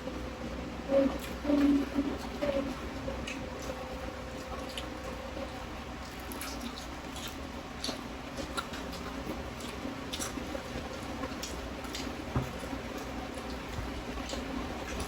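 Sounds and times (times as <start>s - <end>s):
steady low hum: 0.0s - 15.0s
people chewing crispy food: 0.9s - 15.0s.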